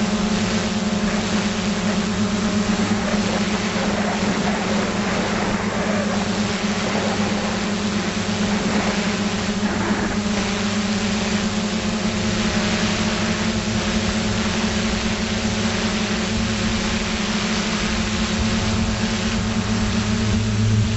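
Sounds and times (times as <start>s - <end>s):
electric motors humming: 0.0s - 20.9s
rush of prop wash and air: 0.0s - 20.9s.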